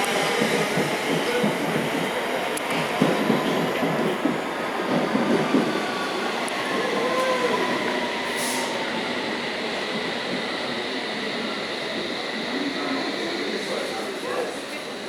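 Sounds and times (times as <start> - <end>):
train rail and wheel noise: 0.0 - 15.0.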